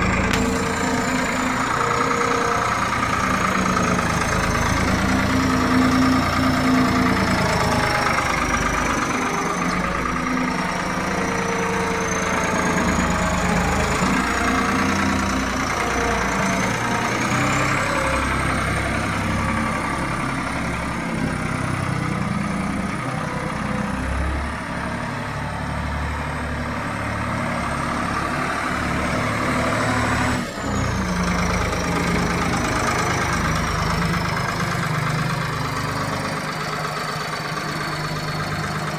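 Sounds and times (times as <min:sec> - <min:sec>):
diesel loader engine running: 0:00.0 - 0:38.9.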